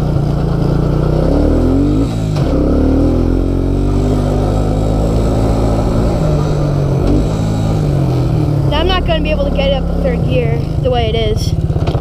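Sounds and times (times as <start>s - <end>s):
atv engine accelerating: 0.0s - 12.0s.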